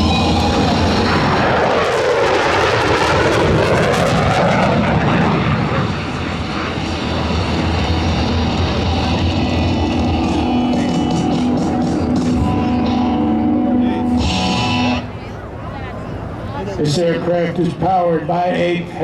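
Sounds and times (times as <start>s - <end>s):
jet fighter passing: 0.0s - 19.0s.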